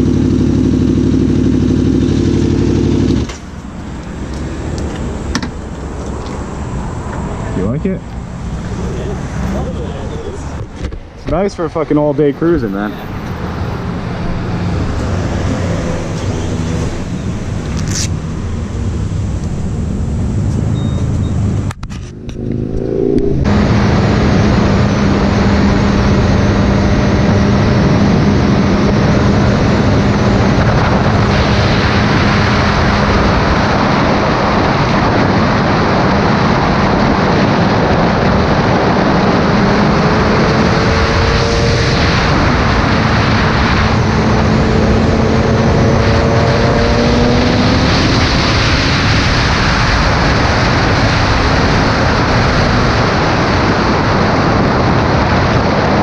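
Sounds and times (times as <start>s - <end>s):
motorcycle engine hum: 0.0s - 56.0s
wind and road rush: 0.0s - 56.0s.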